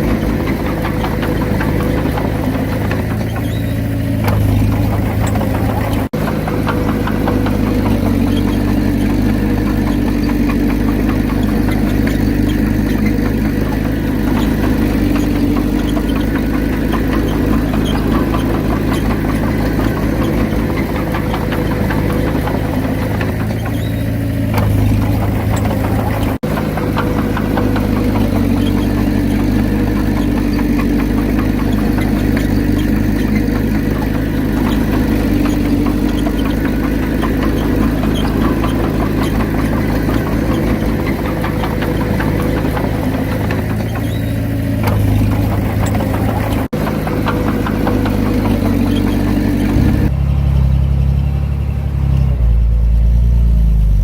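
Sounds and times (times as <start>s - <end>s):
heavy diesel machinery rattling: 0.0s - 54.0s.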